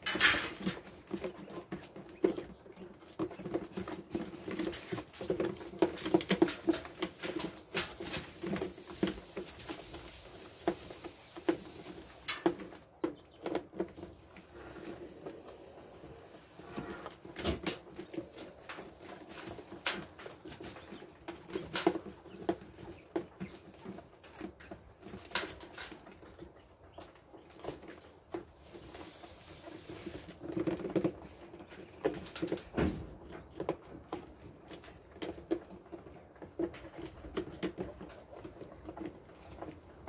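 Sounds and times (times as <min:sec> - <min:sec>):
birds scratching in wood shavings: 0:00.1 - 0:32.7.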